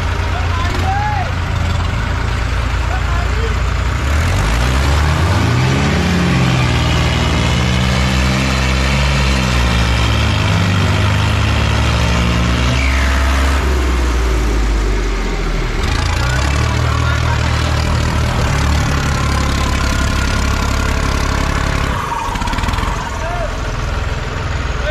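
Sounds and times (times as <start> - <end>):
diesel farm machinery engine: 0.0 - 24.9.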